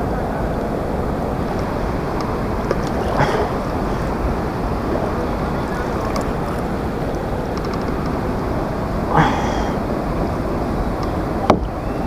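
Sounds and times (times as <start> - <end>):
river water flowing: 0.0 - 11.5
wind on microphone: 0.0 - 12.0.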